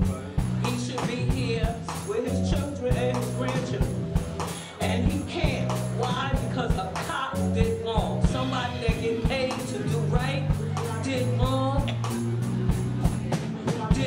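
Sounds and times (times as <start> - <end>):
drums and cymbals: 0.0 - 14.0
keyboard: 0.0 - 14.0
long held bass notes: 0.0 - 14.0.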